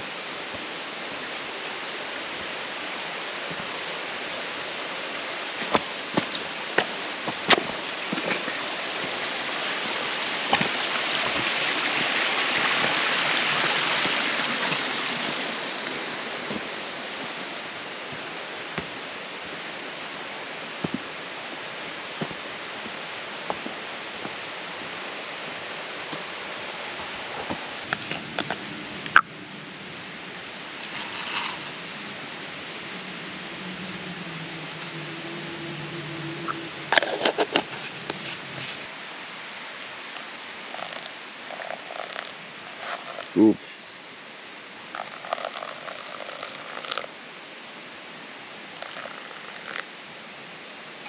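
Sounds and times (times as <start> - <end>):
rushing stream water: 0.0 - 51.0.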